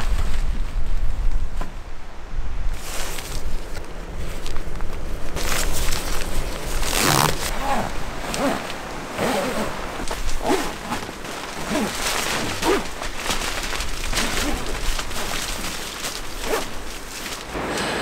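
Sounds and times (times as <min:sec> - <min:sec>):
tent fabric flapping: 0:00.0 - 0:01.8, 0:02.7 - 0:17.6
wind rumbling on microphone: 0:00.0 - 0:17.5.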